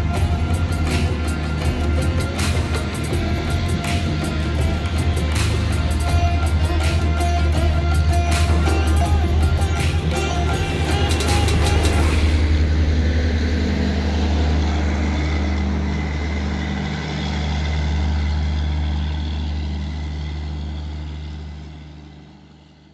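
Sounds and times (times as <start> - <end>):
train rumbling past: 0.0 - 22.8.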